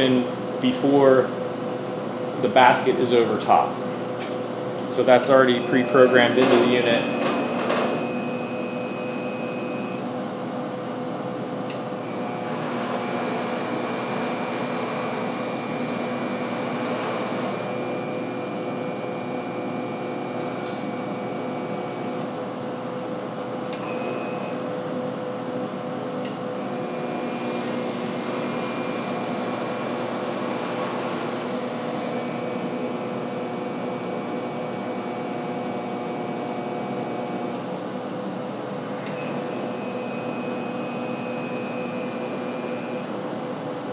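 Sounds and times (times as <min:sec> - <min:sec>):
high machine whine: 0:00.0 - 0:43.9
machine hum: 0:00.0 - 0:43.9.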